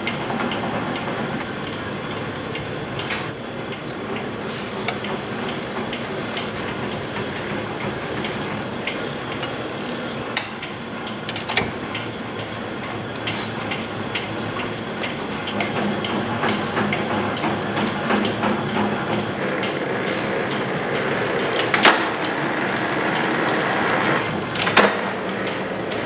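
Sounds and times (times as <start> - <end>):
machinery clattering: 0.0 - 26.0.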